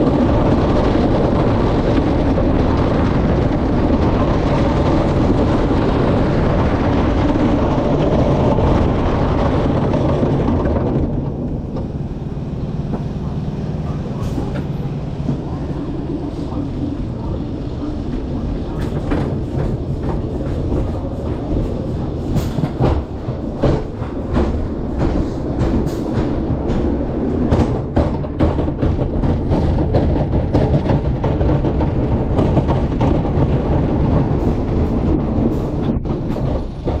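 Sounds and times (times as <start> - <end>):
roller coaster rumbling: 0.0 - 37.0
wheels clacking on wooden track: 0.0 - 37.0.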